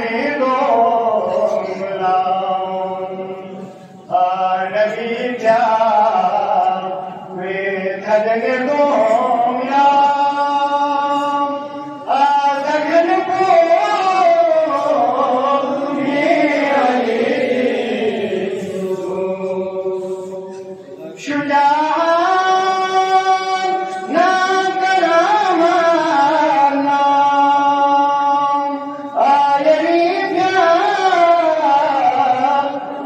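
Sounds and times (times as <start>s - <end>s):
man chanting into a microphone: 0.0s - 33.0s.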